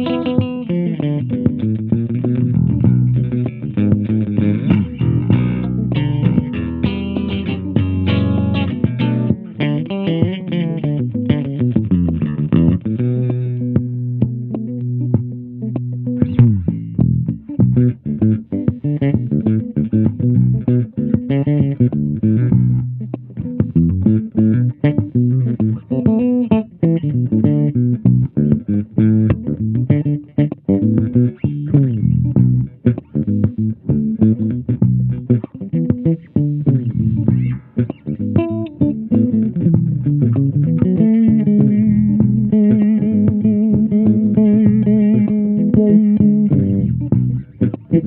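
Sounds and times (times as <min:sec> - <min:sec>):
electric bass played solo: 0:00.0 - 0:48.0.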